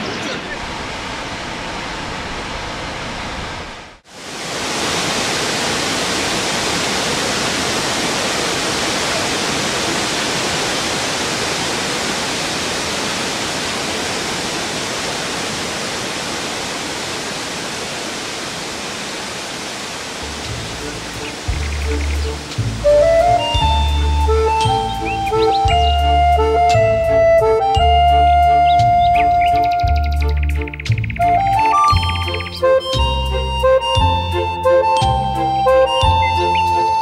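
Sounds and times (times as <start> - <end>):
waterfall rushing: 0.0 - 29.7, 31.2 - 37.0.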